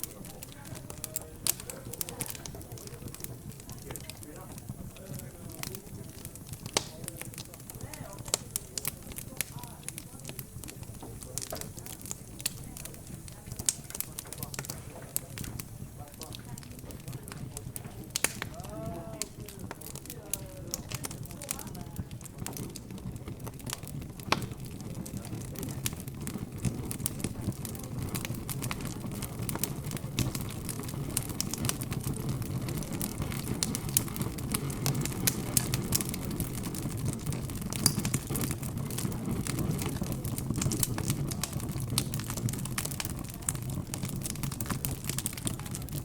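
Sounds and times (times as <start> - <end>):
background chatter: 0.0 - 46.0
fireplace crackling: 0.0 - 46.0.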